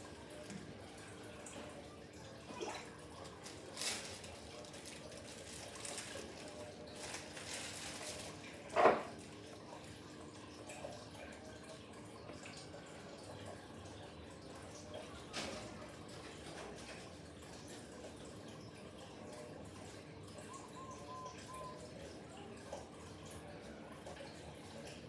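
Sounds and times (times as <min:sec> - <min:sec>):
water dripping and trickling: 0:00.0 - 0:25.0.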